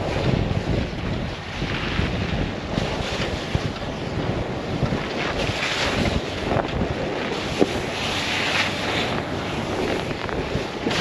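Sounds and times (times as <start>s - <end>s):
low vehicle rumble: 0.0s - 11.0s
tyres swishing through slush: 0.0s - 11.0s
wind buffeting microphone: 0.0s - 11.0s.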